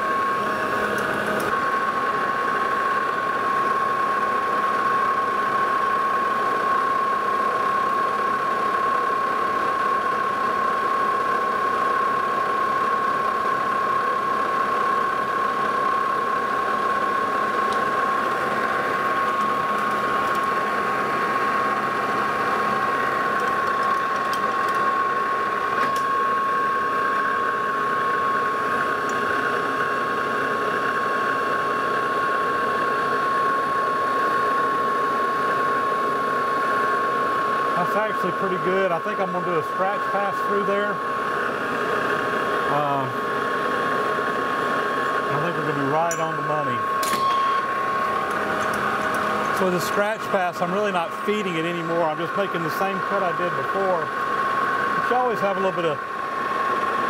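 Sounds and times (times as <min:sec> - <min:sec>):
metal lathe high whine: 0:00.0 - 0:57.0.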